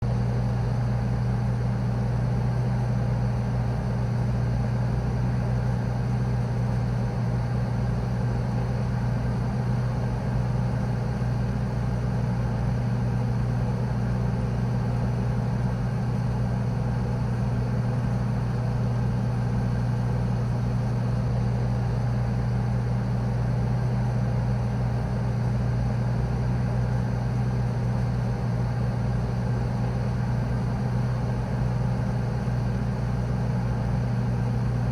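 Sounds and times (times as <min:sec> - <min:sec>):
refrigeration unit humming: 0:00.1 - 0:34.9.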